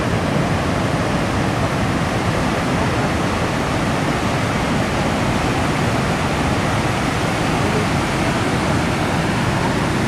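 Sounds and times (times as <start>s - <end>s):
water rushing through spillway: 0.0s - 10.0s.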